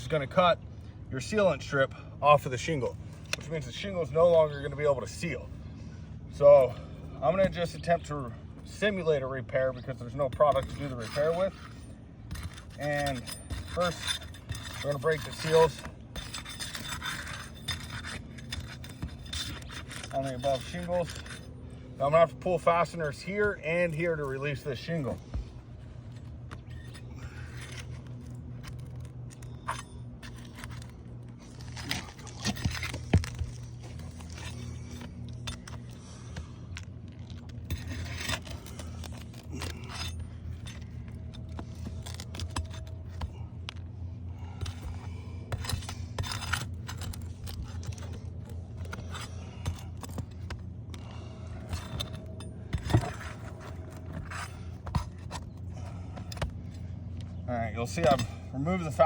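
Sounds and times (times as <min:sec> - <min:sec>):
steady low hum: 0:00.0 - 0:59.0
metal tool scraping shingles: 0:06.4 - 0:59.0.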